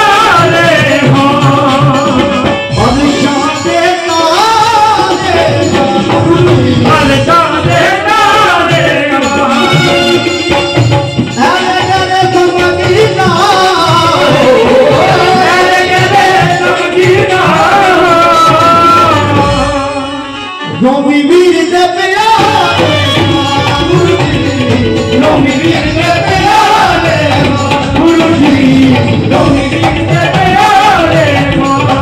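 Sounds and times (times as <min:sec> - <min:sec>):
hand drum: 0:00.0 - 0:20.0, 0:22.2 - 0:32.0
harmonium: 0:00.0 - 0:32.0
man singing through a pa system: 0:00.0 - 0:32.0.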